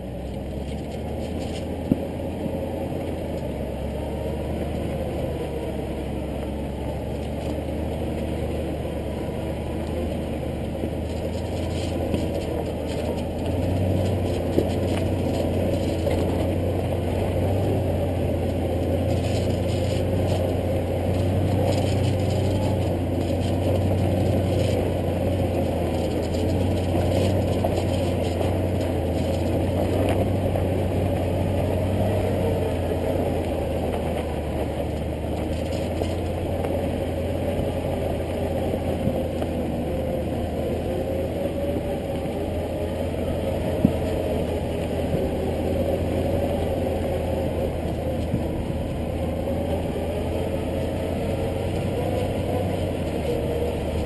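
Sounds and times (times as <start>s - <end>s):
engine running at low revs: 0.0s - 54.0s.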